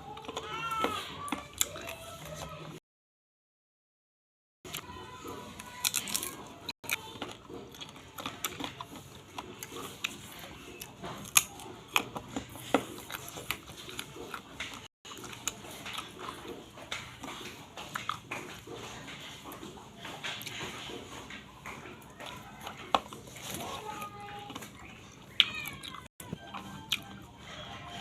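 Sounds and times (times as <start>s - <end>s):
crunchy chewing: 4.7s - 28.0s.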